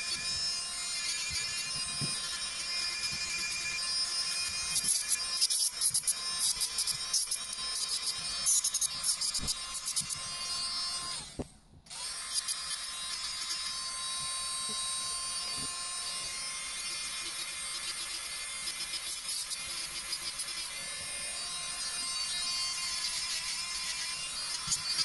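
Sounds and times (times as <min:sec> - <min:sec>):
electric nail drill grinding: 0:00.0 - 0:25.0.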